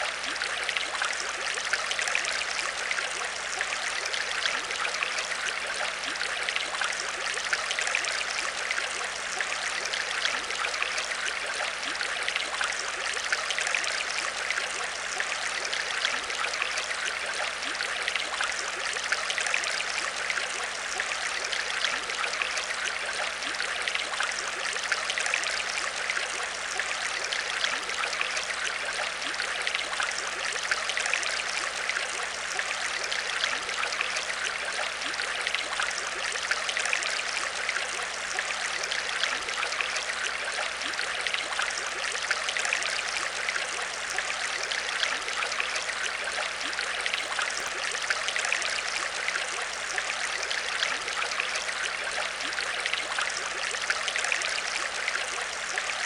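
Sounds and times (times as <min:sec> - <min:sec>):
aquarium water trickling: 0:00.0 - 0:56.0.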